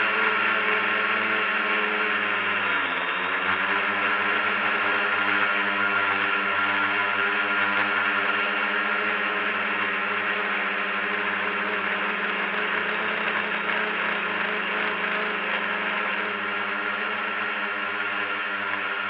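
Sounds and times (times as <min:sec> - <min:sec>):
drone propellers whirring: 0:00.0 - 0:19.0.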